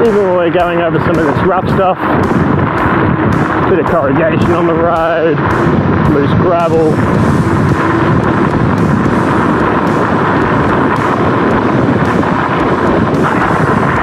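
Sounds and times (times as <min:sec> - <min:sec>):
tyres rumbling on gravel: 0:00.0 - 0:14.0
wind buffeting microphone: 0:00.0 - 0:14.0.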